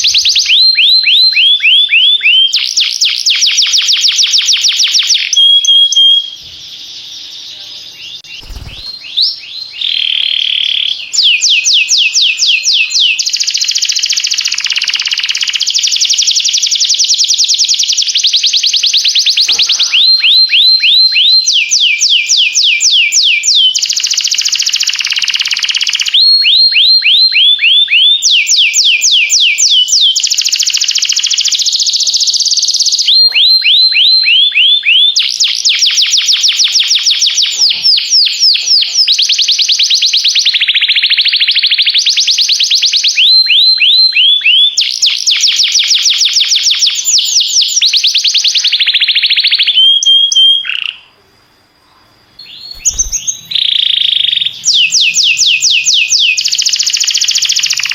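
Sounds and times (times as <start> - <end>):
canary singing trills: 0.0 - 51.2, 51.9 - 57.9.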